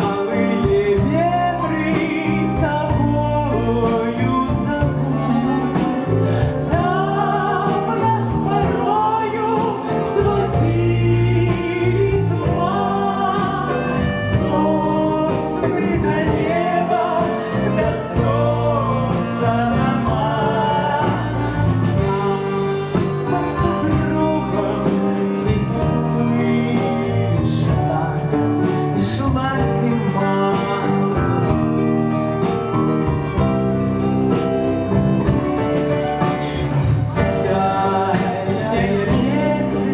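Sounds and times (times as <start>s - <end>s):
bass: 0.0s - 39.9s
button accordion: 0.0s - 39.9s
clarinet: 0.0s - 39.9s
drums: 0.0s - 39.9s
grand piano: 0.0s - 39.9s.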